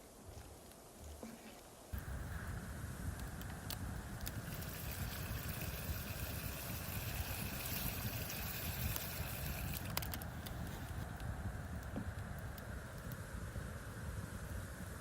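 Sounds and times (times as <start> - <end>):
wind buffeting microphone: 1.9 - 15.0.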